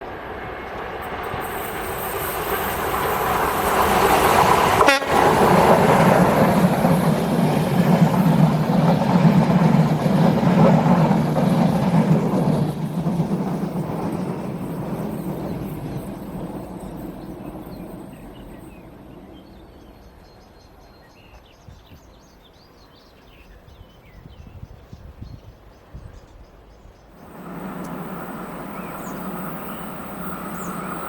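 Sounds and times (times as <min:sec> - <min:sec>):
passing train rumble: 0:00.0 - 0:21.3, 0:27.0 - 0:31.0.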